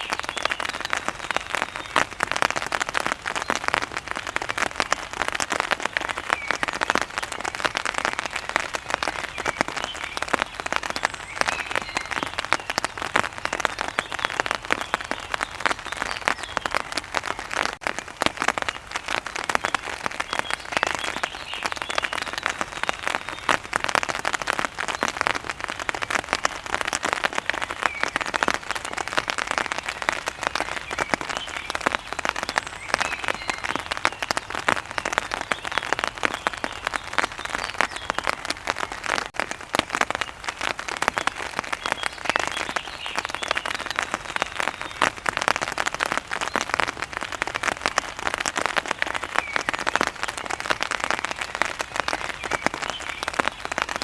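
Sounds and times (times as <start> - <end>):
heavy rain on hard surface: 0.0 - 54.0.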